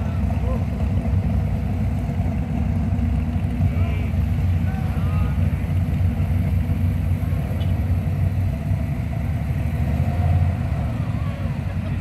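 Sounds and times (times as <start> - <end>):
car engines rumbling past: 0.0 - 12.0.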